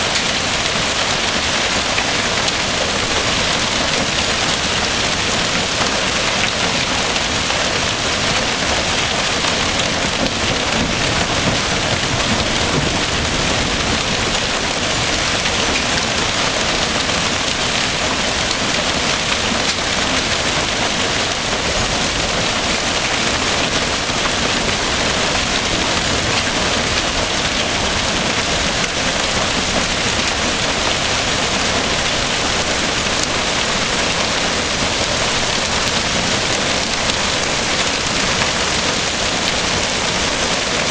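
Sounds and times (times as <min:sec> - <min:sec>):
hail and rain striking surfaces: 0:00.0 - 0:40.9.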